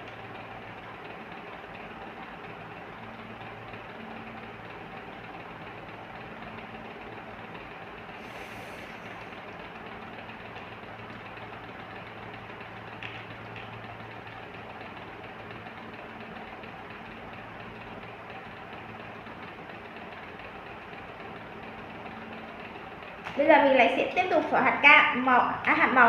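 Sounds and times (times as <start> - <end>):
machine hum with hiss: 0.0 - 26.0.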